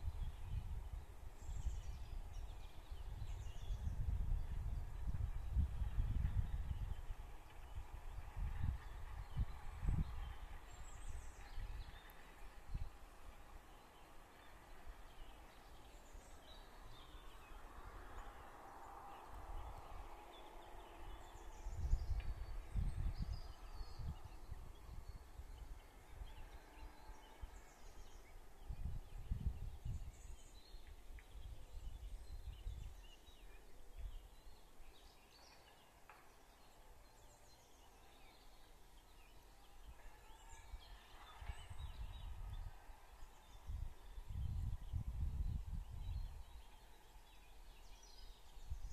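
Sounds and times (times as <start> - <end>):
wind buffeting microphone: 0.0 - 34.4, 40.6 - 48.9.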